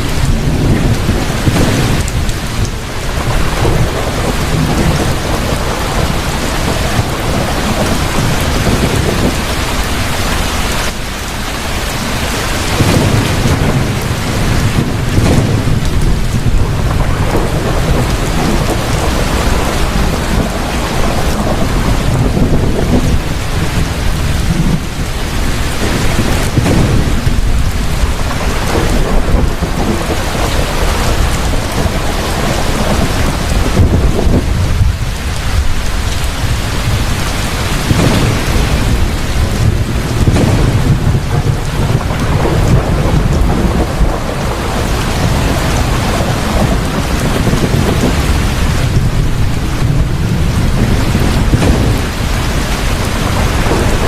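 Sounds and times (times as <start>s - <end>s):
heavy rain: 0.0s - 54.0s
thunder rumbling: 0.0s - 54.0s.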